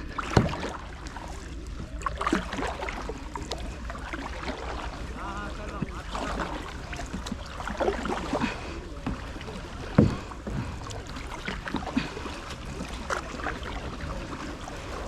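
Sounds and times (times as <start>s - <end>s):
paddle splashing and dripping: 0.0s - 15.0s.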